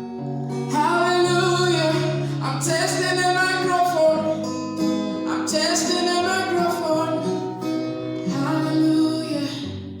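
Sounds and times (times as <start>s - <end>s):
plucked guitar-like accompaniment: 0.0s - 10.0s
person singing: 0.7s - 4.6s, 5.2s - 7.6s, 8.2s - 10.0s.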